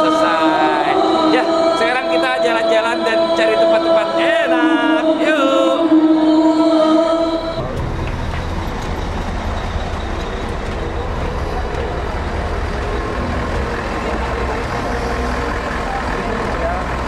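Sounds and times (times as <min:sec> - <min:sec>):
bus engines idling: 0:00.0 - 0:17.0.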